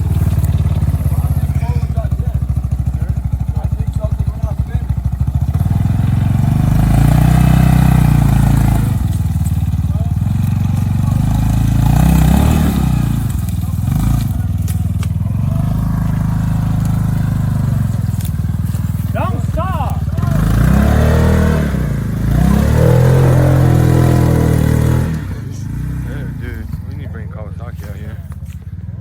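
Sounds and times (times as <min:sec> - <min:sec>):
driving through creek water: 0:00.0 - 0:29.0
vehicle engine running under load: 0:00.0 - 0:29.0.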